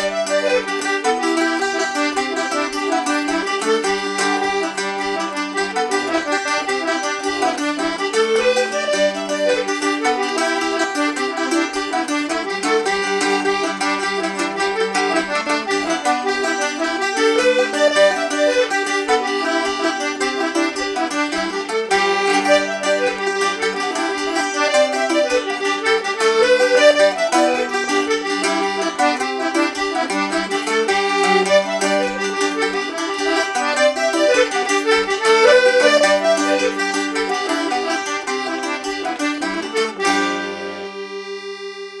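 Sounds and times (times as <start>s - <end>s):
melodeon playing a jig: 0.0s - 42.0s
plucked string instrument strumming: 0.0s - 42.0s.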